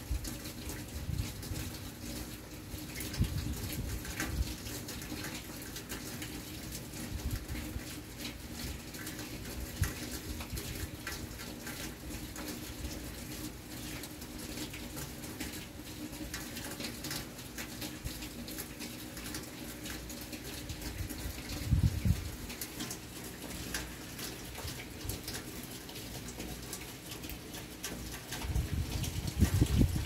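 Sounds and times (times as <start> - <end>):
raindrops pattering: 0.0 - 30.0.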